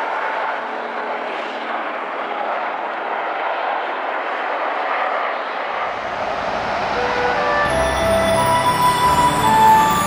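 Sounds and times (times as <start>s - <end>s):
jet airliner taking off: 0.0s - 10.0s.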